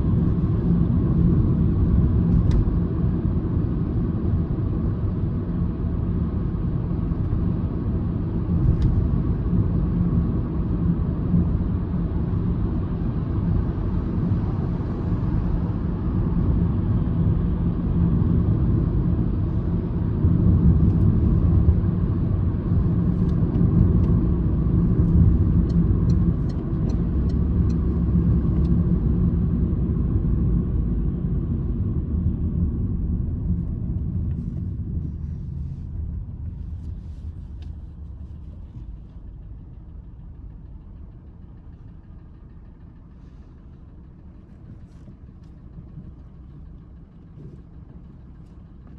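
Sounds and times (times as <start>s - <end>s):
car engine drone from cabin: 0.0s - 48.9s.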